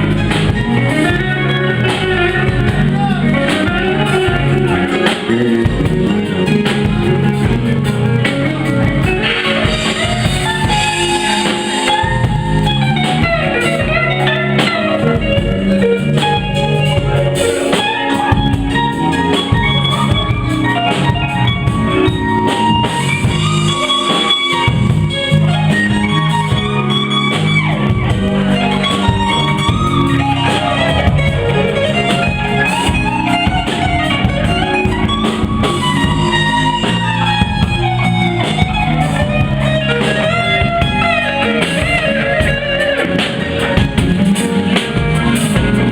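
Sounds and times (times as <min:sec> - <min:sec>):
bass guitar: 0:00.0 - 0:45.9
drum kit: 0:00.0 - 0:45.9
electric guitar lines: 0:00.0 - 0:45.9.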